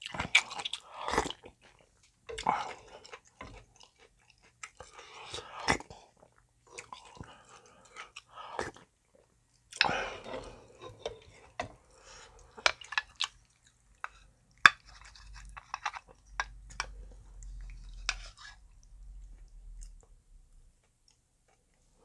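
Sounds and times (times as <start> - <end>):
chewing with wet mouth sounds: 0.0 - 20.2
faint low hum: 0.8 - 22.0.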